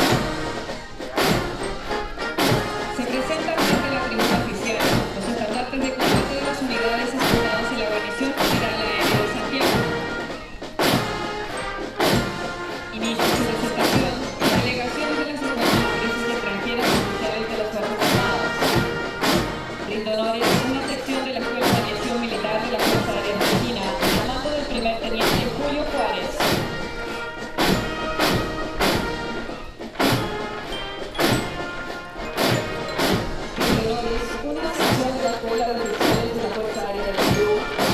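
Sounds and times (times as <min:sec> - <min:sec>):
brass chords: 0:00.0 - 0:37.9
drum and cymbal strikes: 0:00.0 - 0:37.9.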